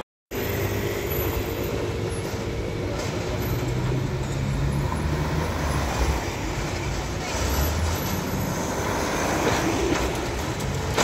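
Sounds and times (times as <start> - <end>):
road traffic: 0.0 - 11.0
tram running on tracks: 0.3 - 11.0
car tyres on wet road: 0.7 - 11.0.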